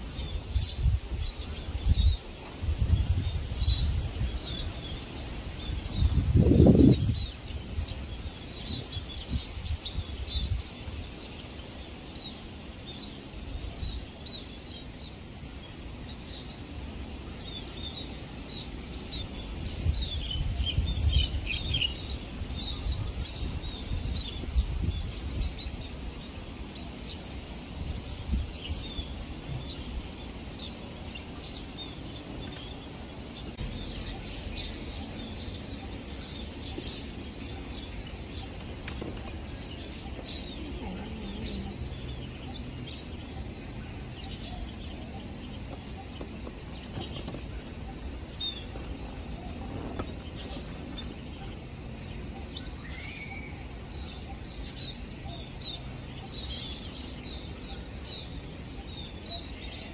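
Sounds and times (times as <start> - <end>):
flock of birds chirping: 0.0 - 59.9.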